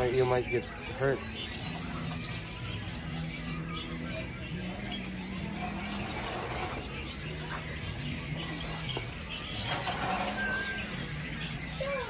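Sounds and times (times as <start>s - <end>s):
background murmur: 0.0s - 12.0s.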